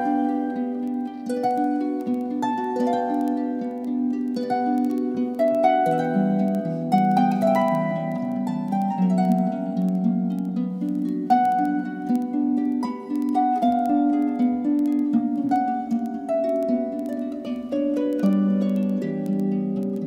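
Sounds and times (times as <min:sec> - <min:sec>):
light plucked melody: 0:00.0 - 0:20.0.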